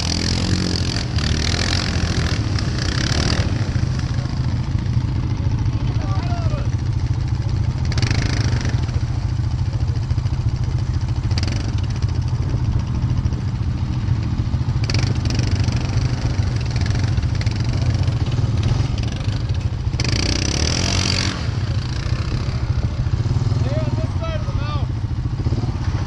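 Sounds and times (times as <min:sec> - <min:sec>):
quad bike engine droning: 0:00.0 - 0:26.0.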